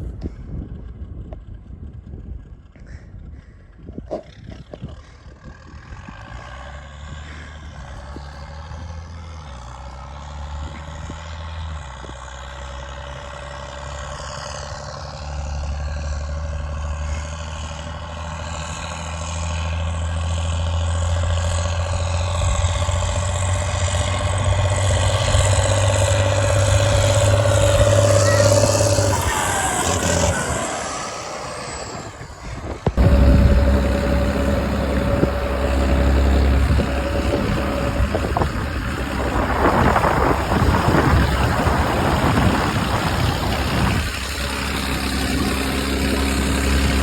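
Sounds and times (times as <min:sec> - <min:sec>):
tractor engine running: 0:04.6 - 0:47.0.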